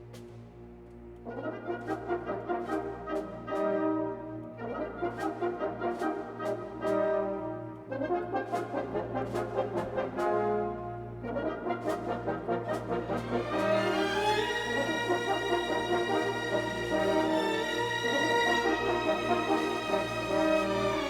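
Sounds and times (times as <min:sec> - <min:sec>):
brass-like chords: 0:01.4 - 0:21.0.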